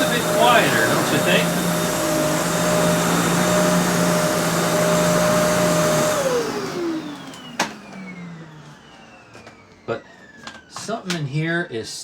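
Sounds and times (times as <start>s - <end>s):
vacuum motor winding down: 0.0s - 11.1s
vacuum cleaner motor whining: 0.0s - 11.9s.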